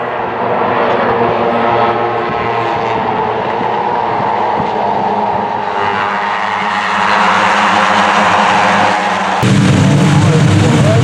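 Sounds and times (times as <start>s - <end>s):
racing engines at speed: 0.0s - 11.0s.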